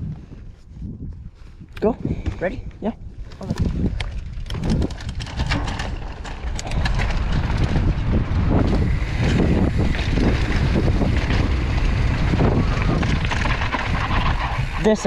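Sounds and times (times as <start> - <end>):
mountain bike rumbling and rattling: 0.0 - 15.0
wind buffeting microphone: 0.0 - 15.0.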